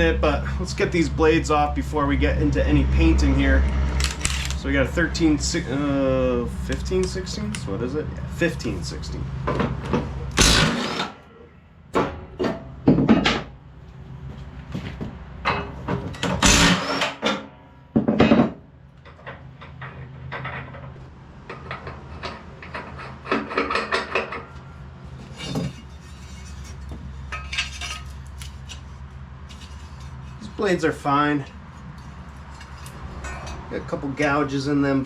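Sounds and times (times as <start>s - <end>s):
tools and mower blades clanking: 0.0s - 13.6s, 14.8s - 34.7s.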